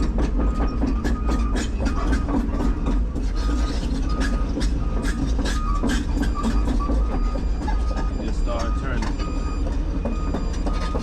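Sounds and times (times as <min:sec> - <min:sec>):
diesel engine running: 0:00.0 - 0:11.0
steel tracks clanking: 0:00.0 - 0:11.0.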